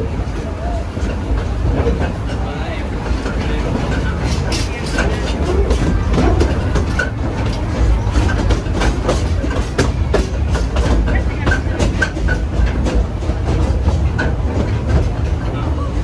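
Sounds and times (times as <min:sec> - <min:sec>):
train rumbling on track: 0:00.0 - 0:16.0
wheels clacking over rails: 0:00.0 - 0:16.0.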